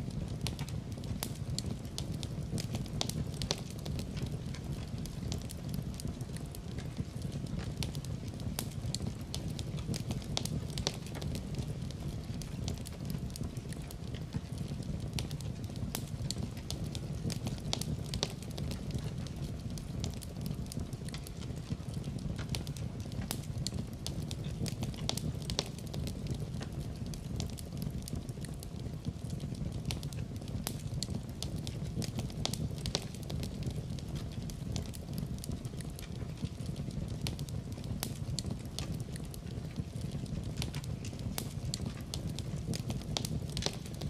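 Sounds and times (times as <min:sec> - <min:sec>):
fire popping and snapping: 0:00.0 - 0:44.0
wood fire crackling: 0:00.0 - 0:44.0.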